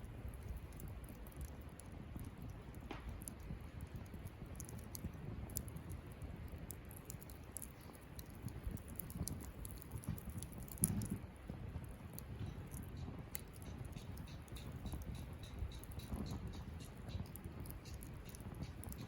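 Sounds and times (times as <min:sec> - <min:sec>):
campfire crackling: 0:00.0 - 0:19.0
low steady rumble: 0:00.0 - 0:19.0.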